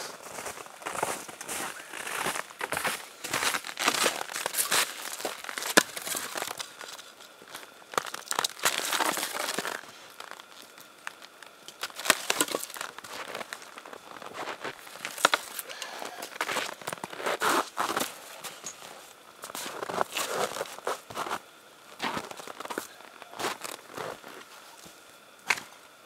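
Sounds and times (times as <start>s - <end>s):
snowshoe steps crunching in snow: 0.0s - 25.0s.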